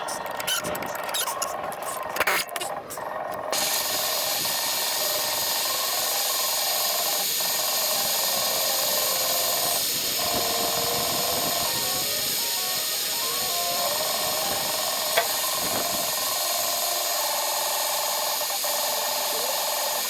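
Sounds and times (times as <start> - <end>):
steady hissing: 3.6 - 20.0.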